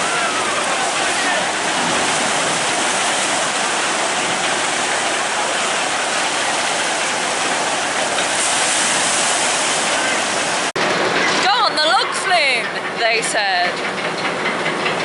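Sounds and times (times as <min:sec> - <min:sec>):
water rushing and cascading: 0:00.0 - 0:12.6.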